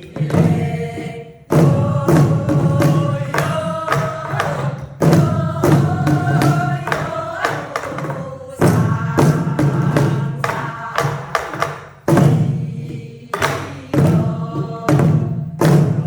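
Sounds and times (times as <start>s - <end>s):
barrel drum strokes: 0.0s - 16.0s
people singing together: 0.0s - 16.0s.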